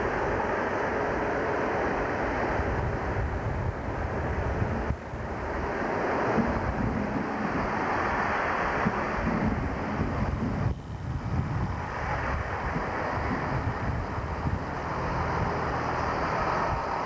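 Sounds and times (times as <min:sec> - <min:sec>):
train engine and wheel rumble: 0:00.0 - 0:17.0
wind buffeting microphone: 0:00.0 - 0:17.0.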